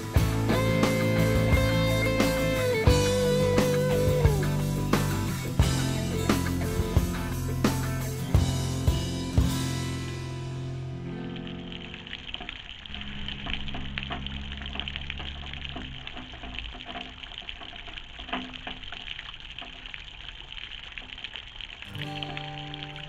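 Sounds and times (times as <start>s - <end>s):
light rain pattering: 0.0s - 23.0s.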